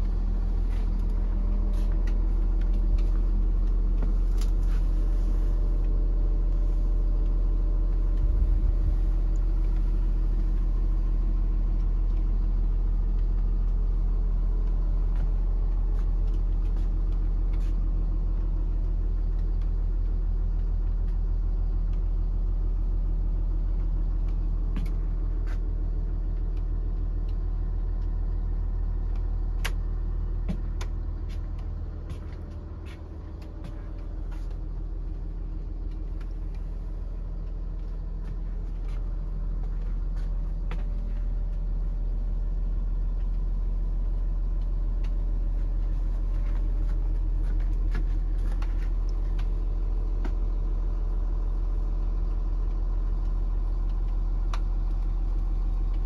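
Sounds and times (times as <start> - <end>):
low engine idle: 0.0 - 56.0.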